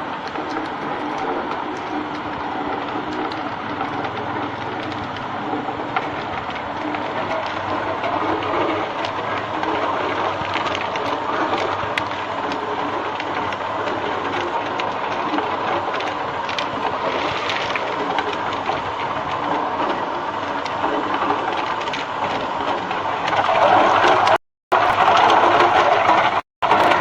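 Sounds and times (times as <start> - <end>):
ice machine running: 0.0 - 27.0.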